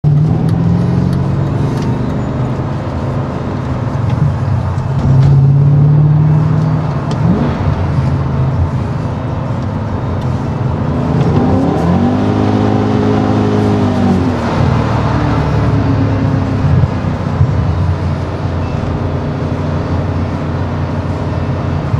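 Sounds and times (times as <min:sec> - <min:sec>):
car engine heard from cabin: 0:00.0 - 0:21.9.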